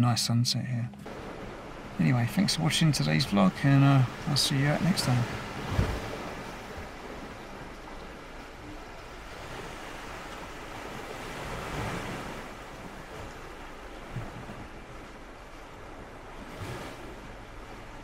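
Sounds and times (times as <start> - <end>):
wind: 0.0 - 18.0
sea waves washing onto beach: 1.0 - 18.0.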